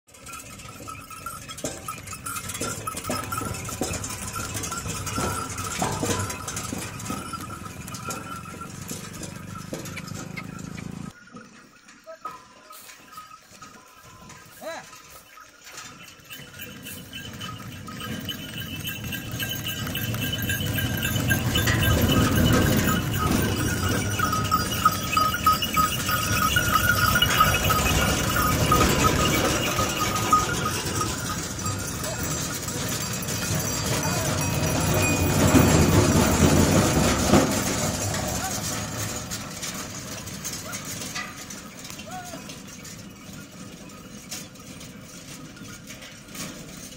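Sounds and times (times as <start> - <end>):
cart bells ringing: 0.1 - 46.9
wooden wheels clattering: 0.1 - 46.9.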